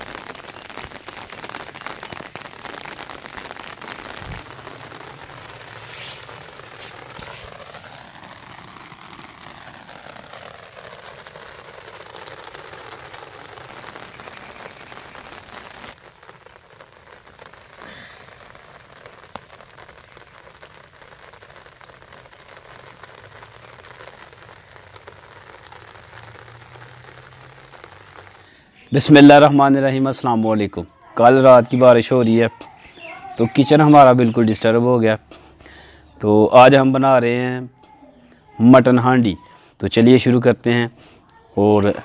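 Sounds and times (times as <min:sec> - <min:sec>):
light rain falling: 0:00.0 - 0:42.0.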